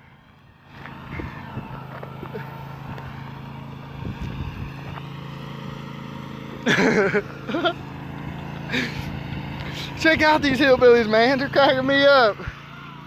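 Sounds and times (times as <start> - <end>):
lawn tractor engines running: 0.0 - 13.0.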